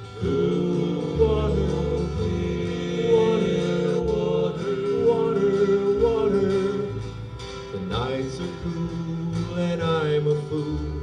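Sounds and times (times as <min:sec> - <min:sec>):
guitar accompaniment: 0:00.0 - 0:11.0
men singing in harmony: 0:00.0 - 0:11.0.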